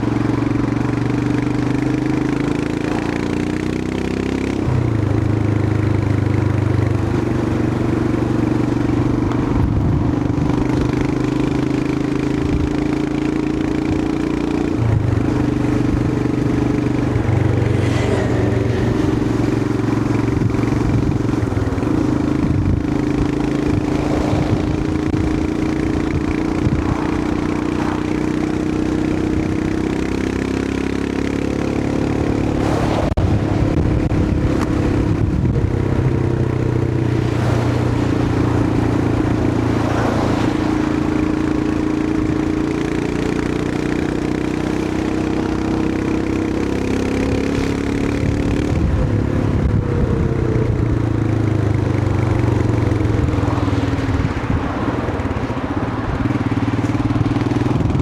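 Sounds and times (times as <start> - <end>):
single-cylinder motorcycle engine: 0.0 - 58.0.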